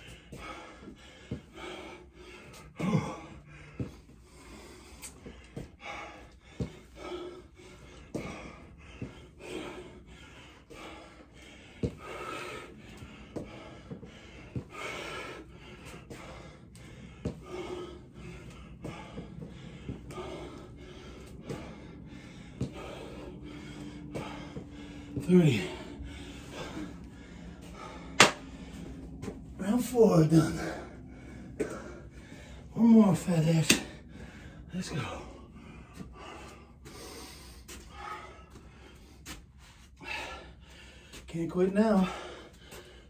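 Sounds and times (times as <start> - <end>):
man breathing hard and gasping: 0.0 - 43.0.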